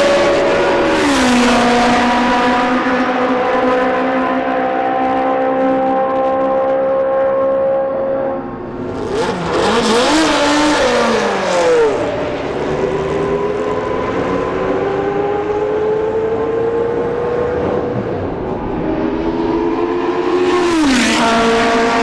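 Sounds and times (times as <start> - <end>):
racing car accelerating: 0.0 - 22.0
racing cars passing at speed: 0.0 - 22.0.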